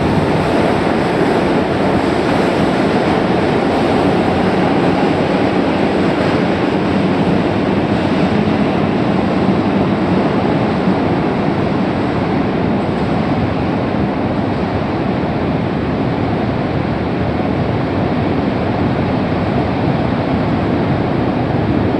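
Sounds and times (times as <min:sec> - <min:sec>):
train rumbling in tunnel: 0:00.0 - 0:21.9.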